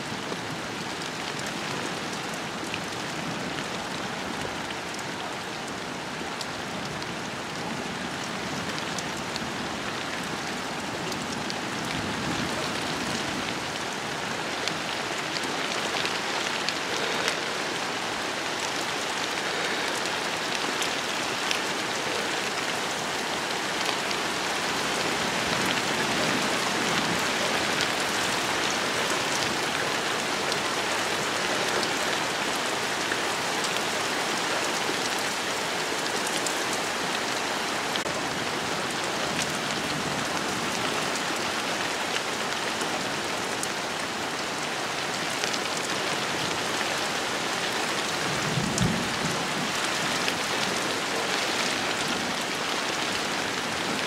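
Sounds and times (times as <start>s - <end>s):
steady rain with ticking drops: 0.0s - 54.0s.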